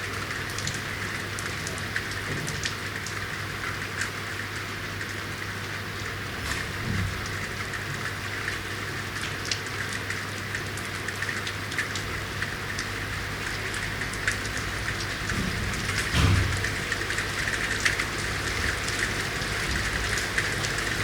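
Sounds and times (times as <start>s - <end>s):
rain on street: 0.0s - 21.0s
water drips and splashes: 0.0s - 21.0s.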